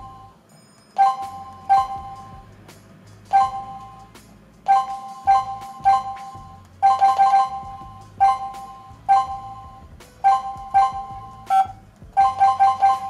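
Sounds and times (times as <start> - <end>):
keypad two-tone beeps: 0.0 - 2.4, 3.3 - 3.9, 4.7 - 13.0.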